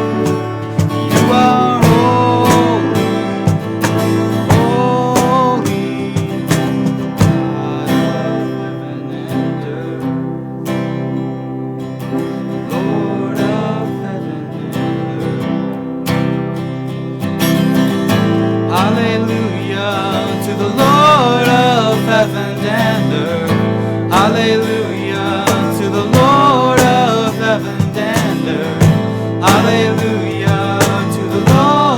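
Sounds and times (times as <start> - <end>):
acoustic guitar music: 0.0 - 31.9.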